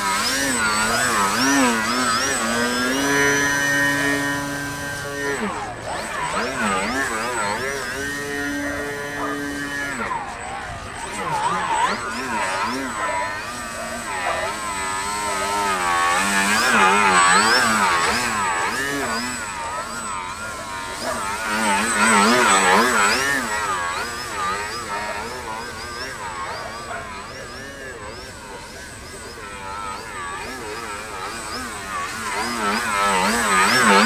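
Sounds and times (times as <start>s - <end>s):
model plane motor and propeller: 0.0s - 34.0s.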